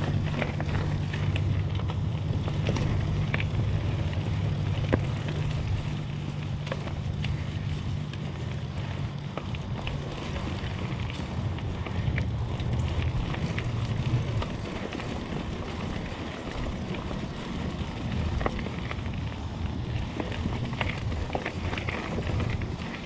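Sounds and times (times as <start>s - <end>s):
bike ticks and rattles: 0.0s - 23.0s
tyre and wind rumble: 0.0s - 23.0s.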